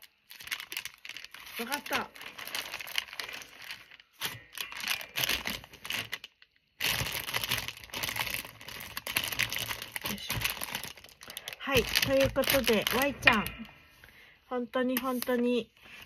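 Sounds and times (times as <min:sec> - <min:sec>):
paper and packaging crinkling: 0:00.0 - 0:13.7, 0:15.0 - 0:15.6.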